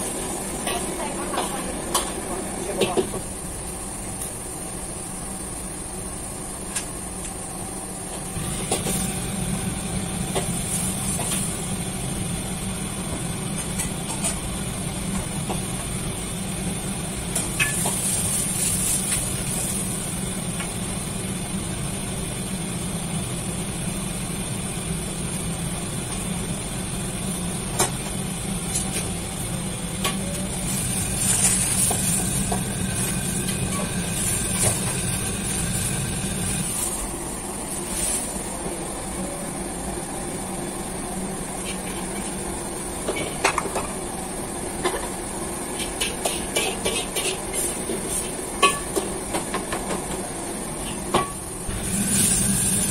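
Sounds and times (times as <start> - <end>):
gas burner hiss: 0.0 - 38.7, 45.5 - 52.9
extractor fan rumble: 0.0 - 45.9, 51.4 - 52.9.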